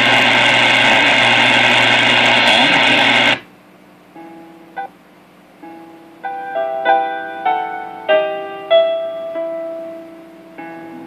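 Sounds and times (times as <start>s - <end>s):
piano music through radio speaker: 0.0s - 3.4s, 4.1s - 11.0s.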